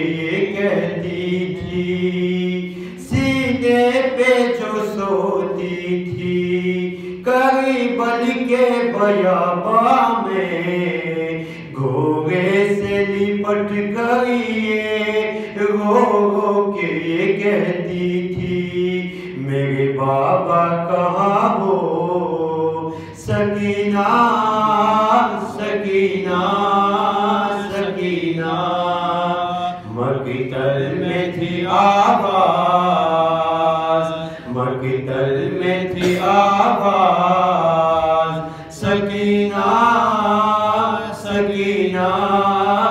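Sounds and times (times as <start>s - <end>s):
man chanting unaccompanied: 0.0s - 42.9s.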